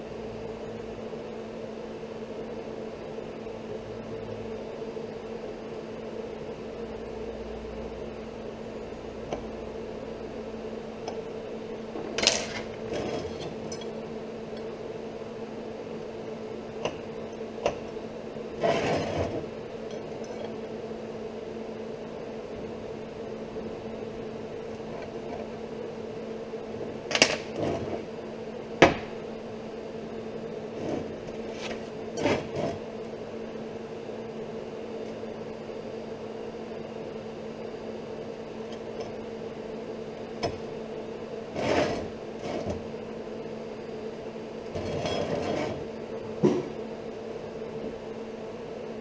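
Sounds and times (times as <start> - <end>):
steady mechanical hum: 0.0 - 49.0.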